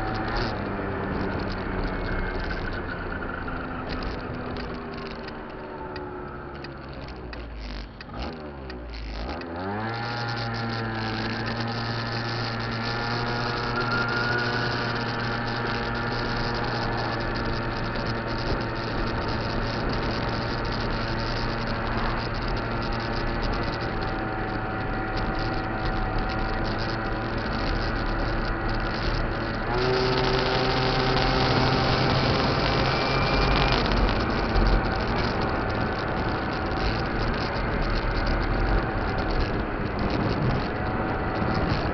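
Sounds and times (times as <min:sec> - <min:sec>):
scooter engine pulling away: 0:07.7 - 0:41.9.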